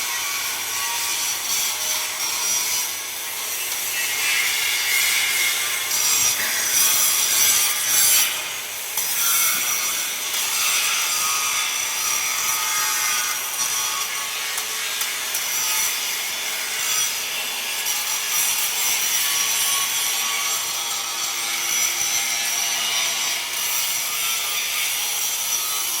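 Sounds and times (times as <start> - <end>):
metal being cut: 0.0 - 26.0.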